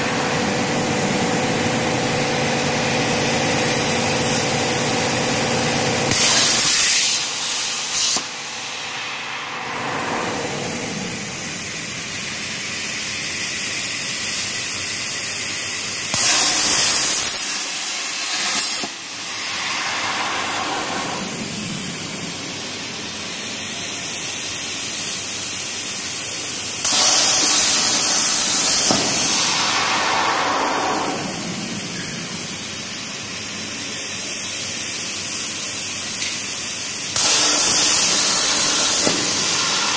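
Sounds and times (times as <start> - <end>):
plasma torch hissing bursts: 0.0 - 39.9.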